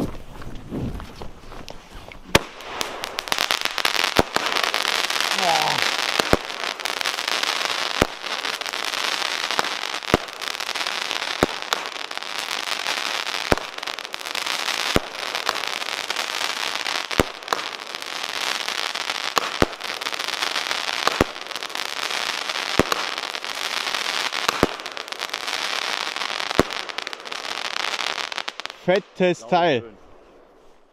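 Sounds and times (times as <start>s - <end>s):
dense crackling hiss: 0.0s - 30.9s
firework bangs: 2.3s - 29.3s.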